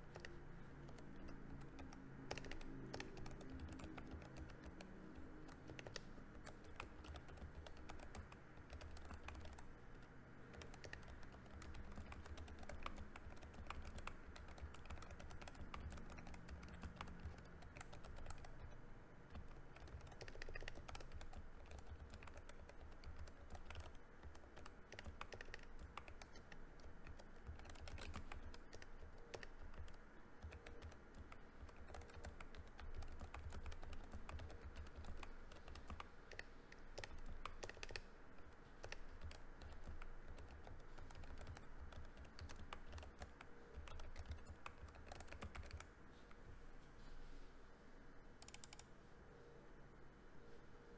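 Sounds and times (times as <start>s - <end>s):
fast mechanical keyboard typing: 0.0s - 45.9s, 48.4s - 48.8s.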